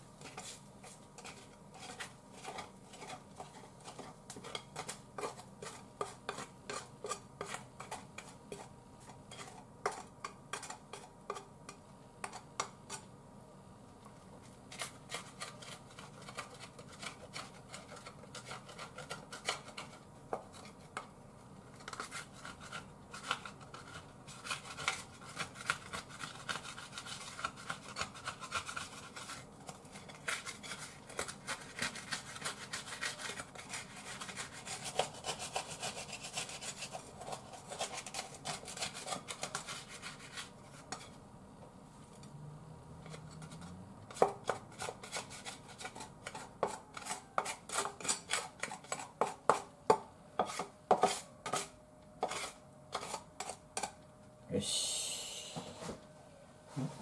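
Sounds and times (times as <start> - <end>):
spatula scraping a frying pan: 0.2 - 13.1, 14.7 - 21.1, 21.7 - 41.2, 43.1 - 49.7, 50.4 - 54.0.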